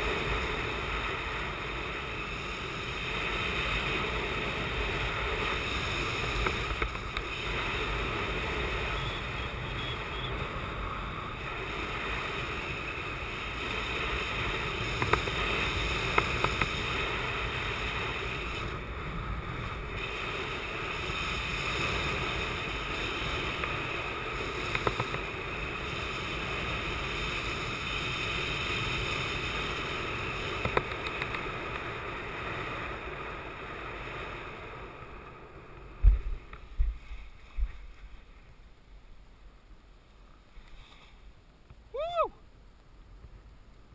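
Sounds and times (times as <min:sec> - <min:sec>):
wind rushing over microphone: 0:00.0 - 0:38.5.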